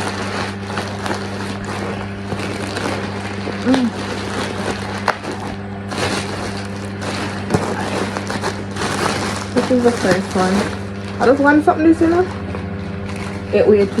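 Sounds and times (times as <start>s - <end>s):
plastic package crinkling: 0.0s - 14.0s
steady low hum: 0.0s - 14.0s.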